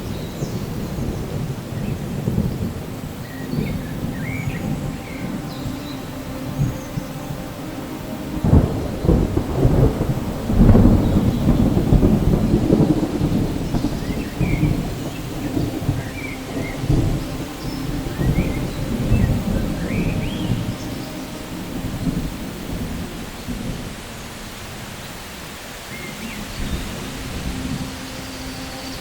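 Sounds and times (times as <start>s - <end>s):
rolling thunder: 0.0s - 25.0s
steady rain: 0.0s - 29.0s.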